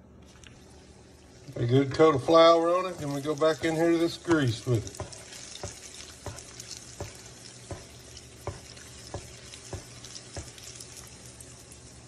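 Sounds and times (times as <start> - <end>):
egg sizzling in grease: 0.2 - 12.0.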